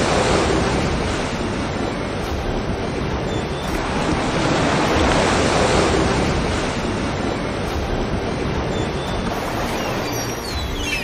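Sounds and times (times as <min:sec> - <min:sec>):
sea waves washing: 0:00.0 - 0:11.0.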